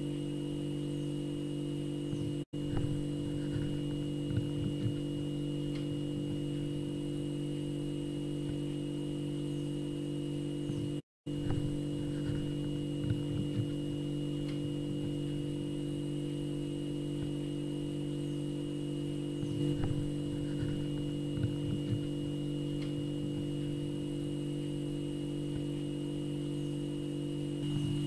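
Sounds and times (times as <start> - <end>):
refrigerator humming: 0.0 - 28.0.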